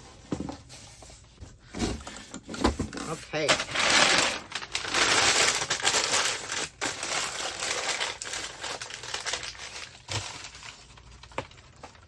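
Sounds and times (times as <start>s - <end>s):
packaging crinkling and rustling: 1.8s - 12.0s.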